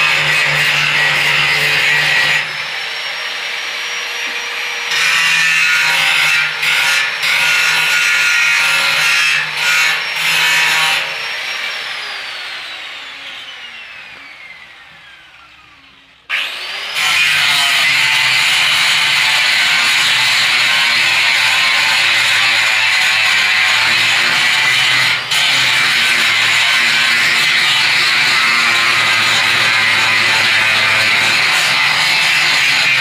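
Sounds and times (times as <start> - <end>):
angle grinder cutting metal: 0.0 - 33.0.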